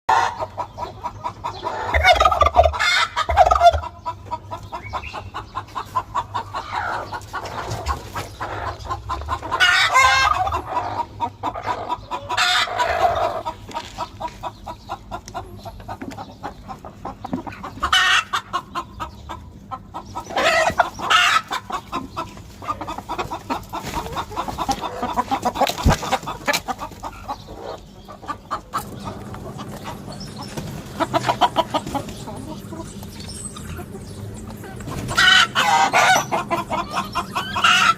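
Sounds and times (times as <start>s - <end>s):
loud chicken calls: 0.1s - 15.6s, 16.5s - 34.0s, 34.7s - 37.9s
chickens clucking: 0.1s - 37.9s.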